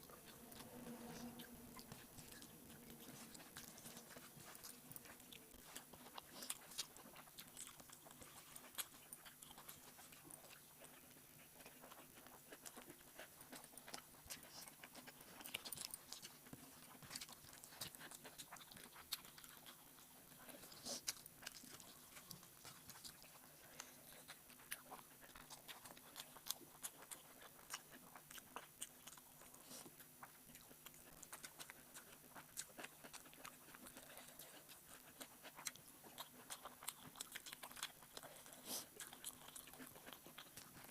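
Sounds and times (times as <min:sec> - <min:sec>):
chewing and mouth smacks: 0:00.0 - 0:40.9.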